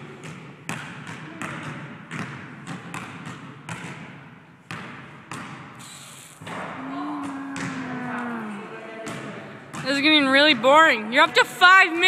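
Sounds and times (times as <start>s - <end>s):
basketball bouncing on court: 0.0s - 12.0s.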